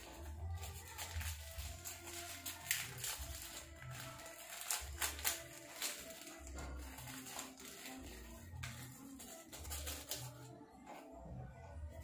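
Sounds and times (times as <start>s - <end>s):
plastic packet crinkling: 0.0s - 10.4s.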